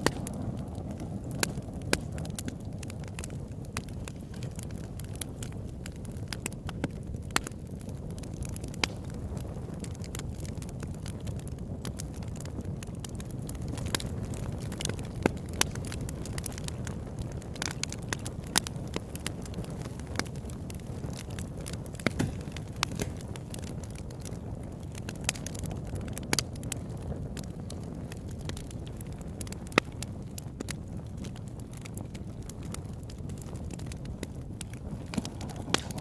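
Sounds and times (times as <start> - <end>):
campfire crackling and popping: 0.0 - 36.0
low fire rumble: 0.0 - 36.0.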